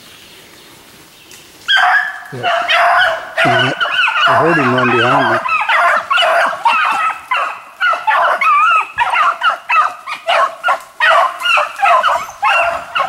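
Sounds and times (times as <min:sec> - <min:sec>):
beagles baying: 0:01.7 - 0:13.0.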